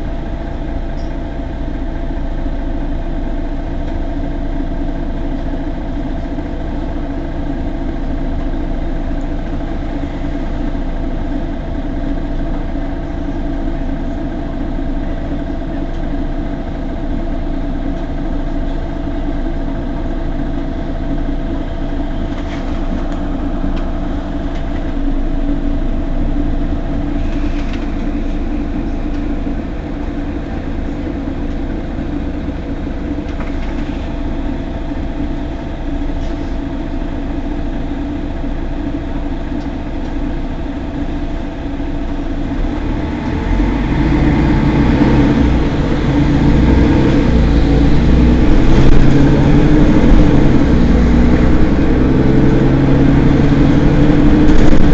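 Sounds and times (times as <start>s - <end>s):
bus engine idling: 0.0s - 54.9s.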